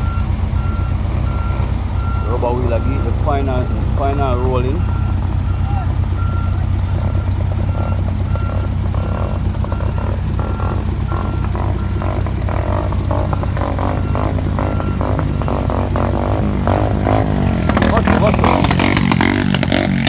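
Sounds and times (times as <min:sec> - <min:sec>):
reversing alarm beeping: 0:00.0 - 0:20.0
roller diesel engine running: 0:00.0 - 0:20.0.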